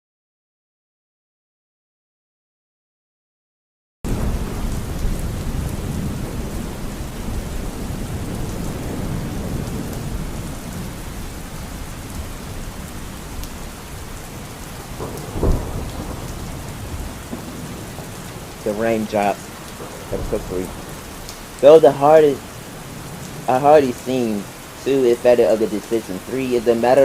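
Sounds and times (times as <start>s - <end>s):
low rumbling thunder: 4.1s - 27.0s
rain falling: 4.1s - 27.0s.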